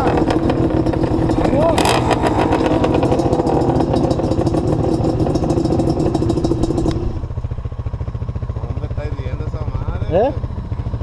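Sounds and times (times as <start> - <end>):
engines idling: 0.0 - 11.0
louder engine running: 0.0 - 11.0.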